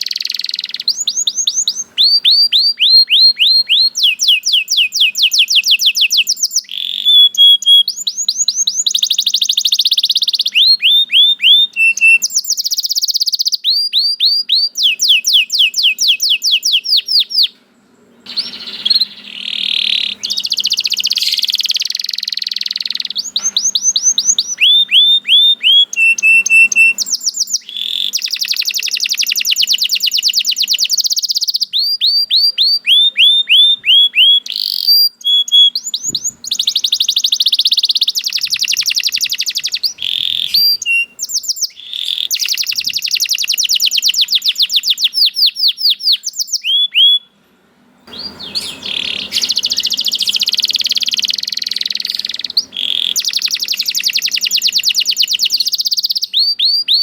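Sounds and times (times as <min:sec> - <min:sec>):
canary singing: 0:00.0 - 0:47.4, 0:48.1 - 0:57.0.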